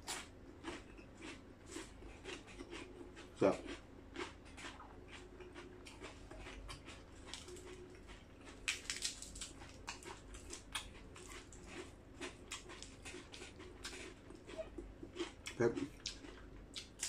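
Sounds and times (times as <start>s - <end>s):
chewing and lip smacking: 0.0s - 17.0s
faint steady hum: 0.0s - 17.0s.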